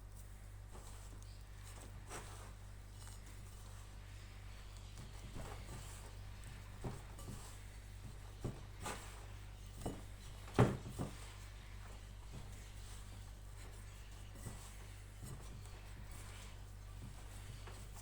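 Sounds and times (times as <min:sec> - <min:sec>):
dough kneaded by hand thuds: 0:00.0 - 0:18.0
steady low hum: 0:00.0 - 0:18.0.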